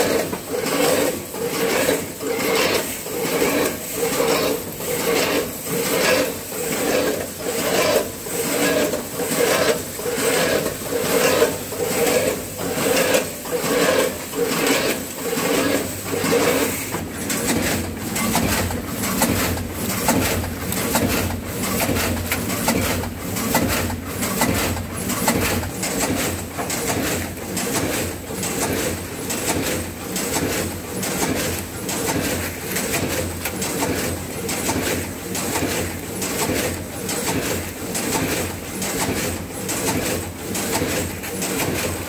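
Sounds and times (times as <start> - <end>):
packing machine cycling rhythmically: 0.0 - 42.0.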